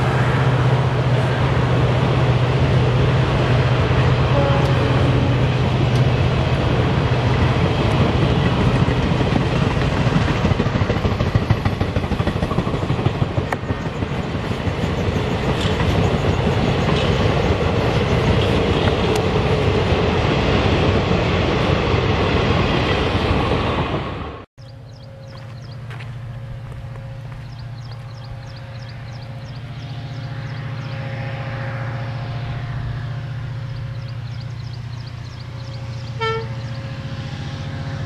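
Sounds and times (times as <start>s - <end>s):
train wheels rumbling and rattling: 0.0s - 38.0s.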